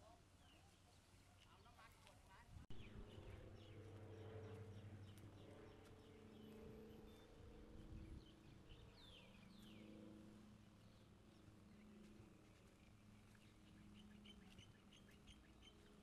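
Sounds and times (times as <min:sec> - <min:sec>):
low steady hum: 0:02.5 - 0:16.0.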